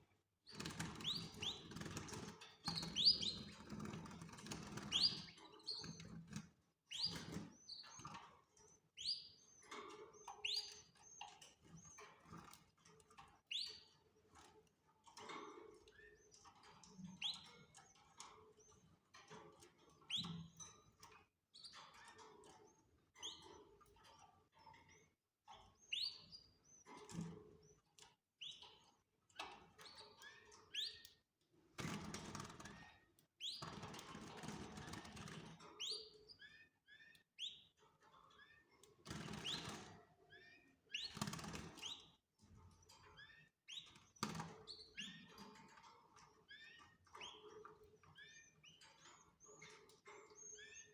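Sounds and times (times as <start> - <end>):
canaries chirping: 0.5 - 31.2, 31.8 - 50.9.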